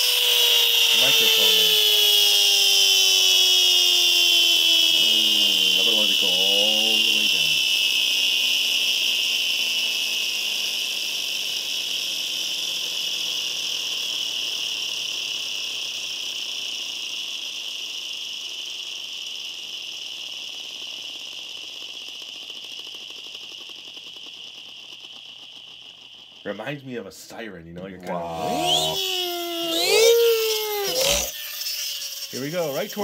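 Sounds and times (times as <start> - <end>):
toy flywheel motor whining: 0.0 - 33.0.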